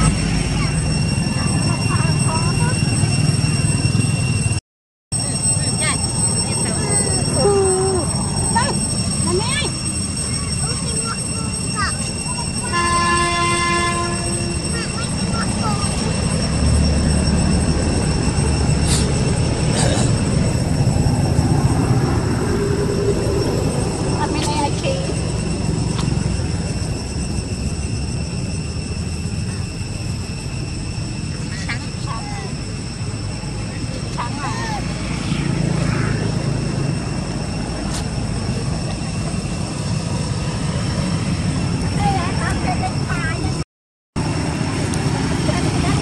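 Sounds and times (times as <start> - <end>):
thin high-pitched tones: 0.0 - 4.6, 5.2 - 43.6
low droning noise: 5.2 - 43.6.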